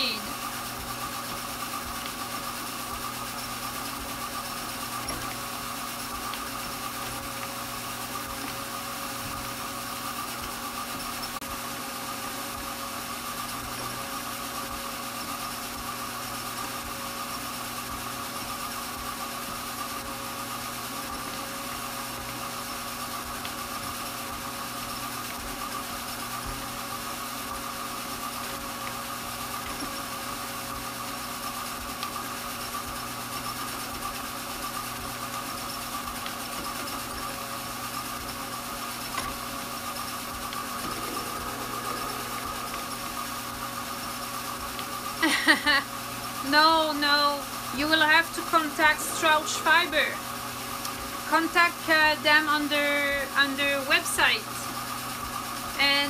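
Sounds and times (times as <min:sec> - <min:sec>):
electric drum carder motor hum: 0:00.0 - 0:55.8.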